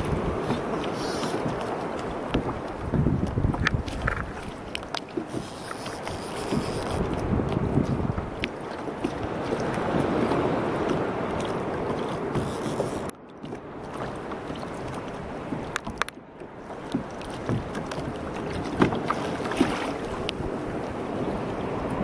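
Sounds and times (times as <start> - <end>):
small splashes and clicks: 0.0 - 20.5
water splashing and lapping: 0.0 - 22.0
wind buffeting microphone: 0.0 - 22.0.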